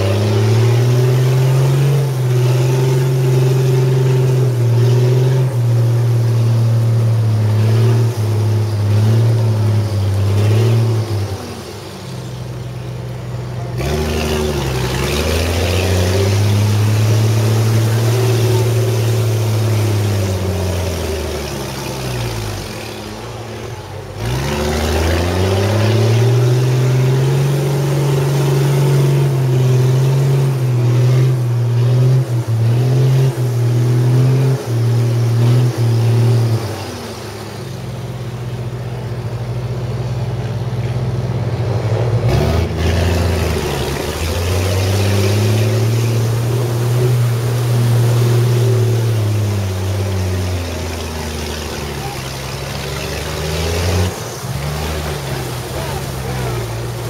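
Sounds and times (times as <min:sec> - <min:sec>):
truck engine running hard: 0:00.0 - 0:57.0.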